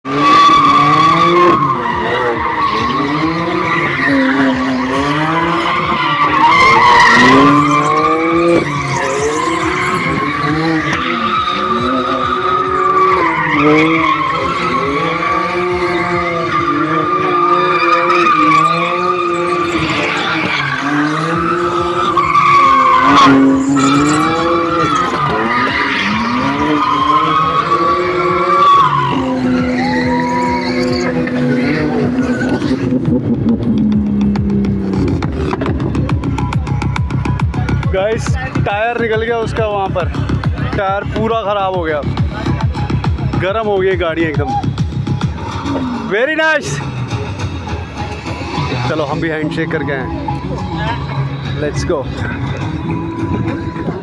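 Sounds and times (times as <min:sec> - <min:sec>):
car engine revving: 0:00.0 - 0:54.0
tyres squealing: 0:00.2 - 0:54.0.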